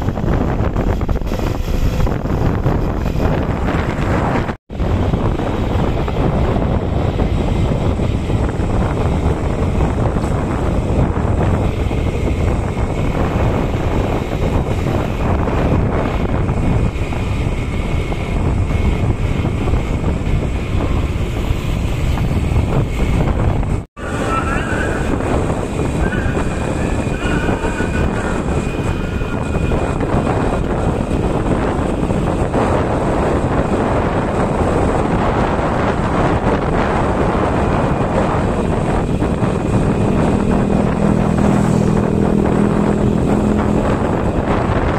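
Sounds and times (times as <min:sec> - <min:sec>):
road noise: 0:00.0 - 0:44.9
vehicle engine: 0:00.0 - 0:44.9
wind rushing over microphone: 0:00.0 - 0:44.9.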